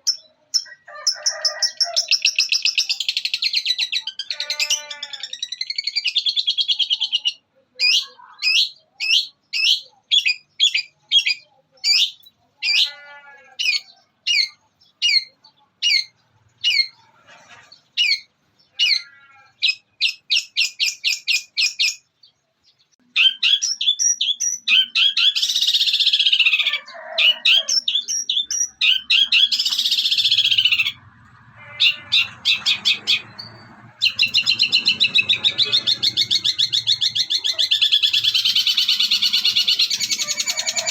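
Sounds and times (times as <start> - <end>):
bird fast trill: 0.0 - 22.0, 23.1 - 40.9
bird harsh chattering: 1.4 - 22.1, 23.0 - 40.9.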